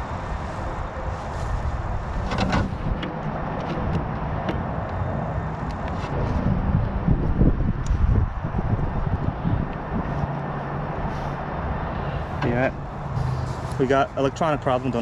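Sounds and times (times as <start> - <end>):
wind rumble on microphone: 0.0 - 13.8.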